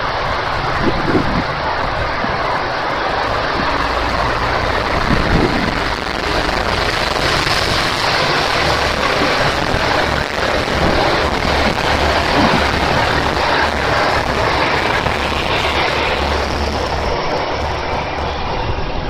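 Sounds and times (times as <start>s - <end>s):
diesel engine roar: 0.0s - 19.0s
steady low hum: 0.0s - 19.0s.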